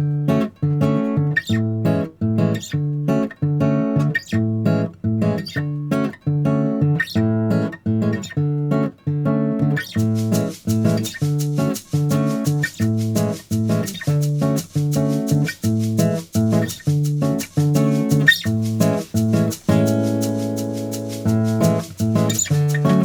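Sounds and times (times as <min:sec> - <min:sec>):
plucked acoustic guitar: 0:00.0 - 0:23.0.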